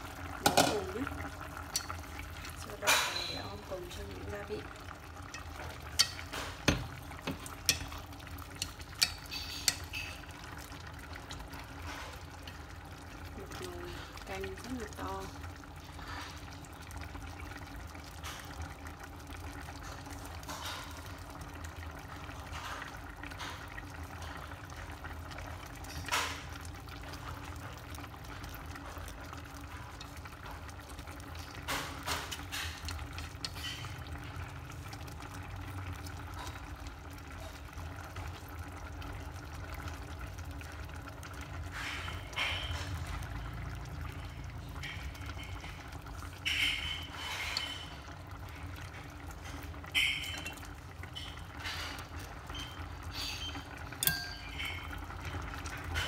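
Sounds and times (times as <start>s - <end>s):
sauce simmering in a pot: 0.0s - 56.0s.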